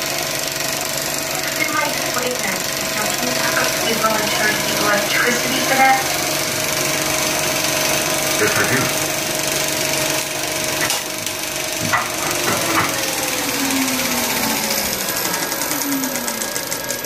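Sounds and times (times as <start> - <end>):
film projector clattering: 0.0 - 17.0.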